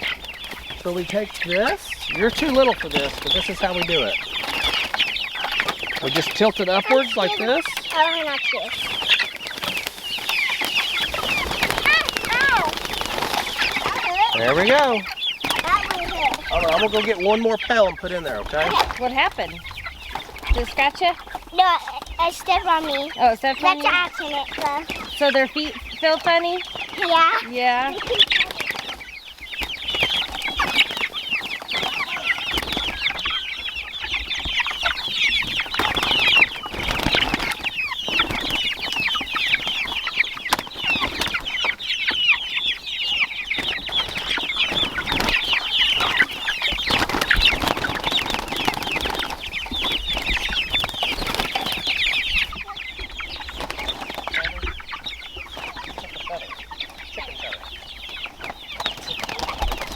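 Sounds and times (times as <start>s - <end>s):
chickens peeping and clucking: 0.0s - 59.9s.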